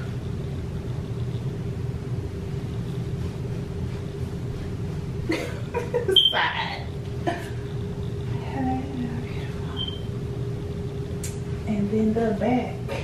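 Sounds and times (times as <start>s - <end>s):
faint hum: 0.0s - 13.0s
steady low rumble: 0.0s - 13.0s.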